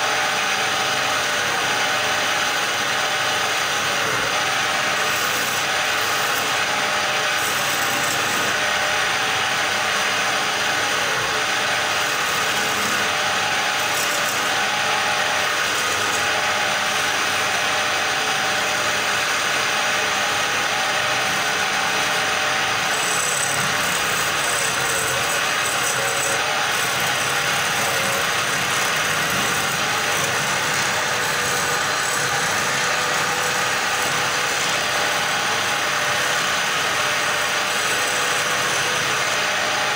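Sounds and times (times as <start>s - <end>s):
lathe motor hum: 0.0s - 39.9s
chisel scraping wood: 3.9s - 39.9s.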